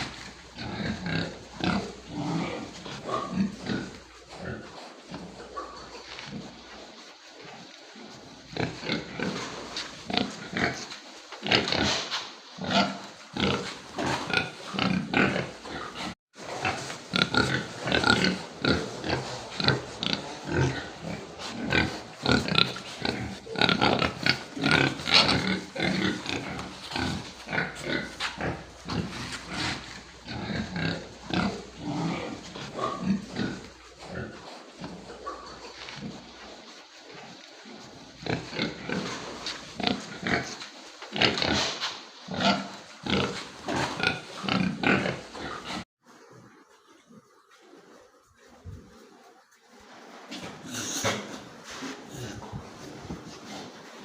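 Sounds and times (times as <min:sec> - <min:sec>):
pigs grunting: 0:00.0 - 0:54.0.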